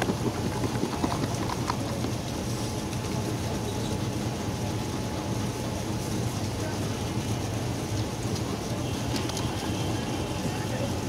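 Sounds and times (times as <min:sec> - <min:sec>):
street background hum: 0:00.0 - 0:11.0.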